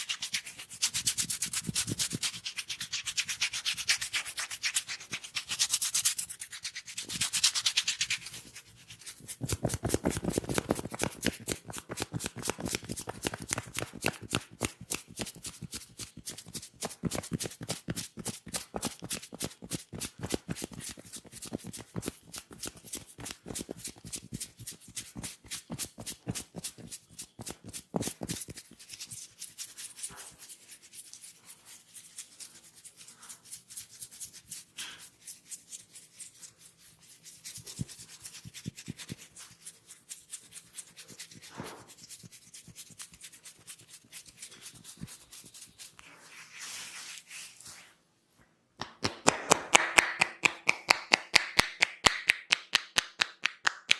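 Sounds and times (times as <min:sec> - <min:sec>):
rubbing on hair and scalp: 0:00.0 - 0:48.0.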